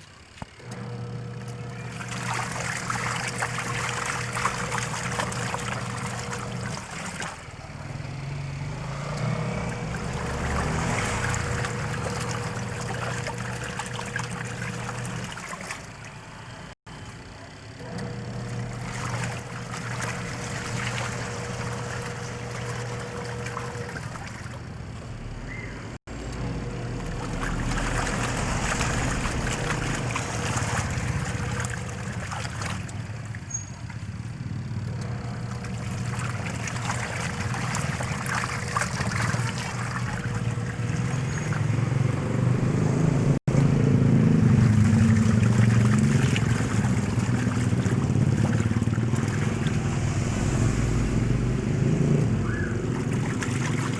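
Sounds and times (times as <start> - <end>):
washing machine motor hum: 0.0 - 53.9
water trickling and sloshing: 0.0 - 53.9.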